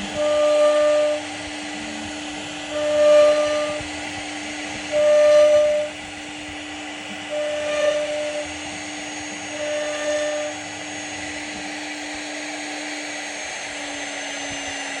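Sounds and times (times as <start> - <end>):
bit cutting wood hiss: 0.0 - 15.0
high tones: 0.0 - 15.0
router spindle whine: 0.0 - 15.0.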